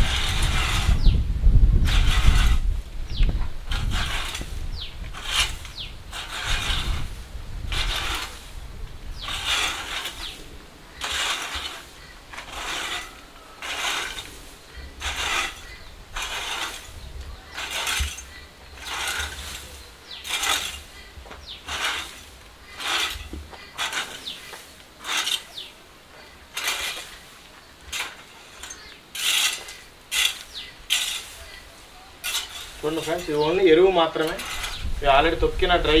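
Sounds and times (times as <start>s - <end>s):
rake tines scraping straw: 0.0s - 36.0s.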